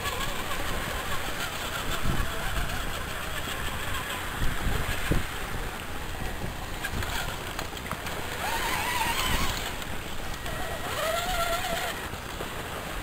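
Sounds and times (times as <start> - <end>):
electric motor and gears whining: 0.0 - 13.0
wind rumble on microphone: 0.0 - 13.0.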